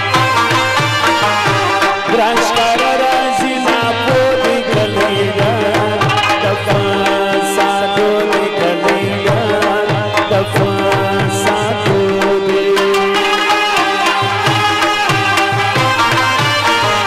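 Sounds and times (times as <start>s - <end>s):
drums beating steady rhythm: 0.0s - 17.0s.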